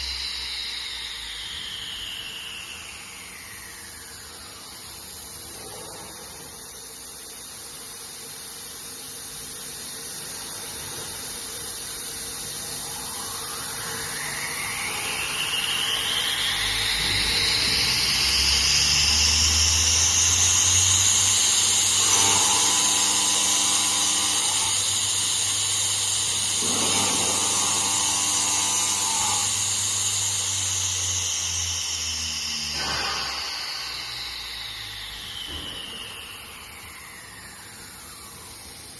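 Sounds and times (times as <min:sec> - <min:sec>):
buzzing: 0:00.0 - 0:38.9
saw spindle motor whine: 0:00.0 - 0:38.9.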